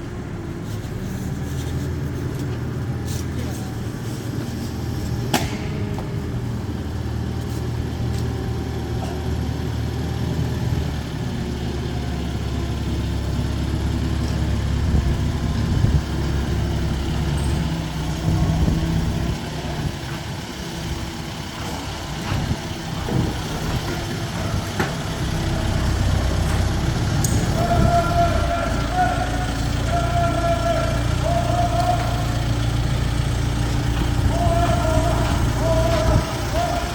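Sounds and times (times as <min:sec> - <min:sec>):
low machine rumble: 0:00.0 - 0:36.9.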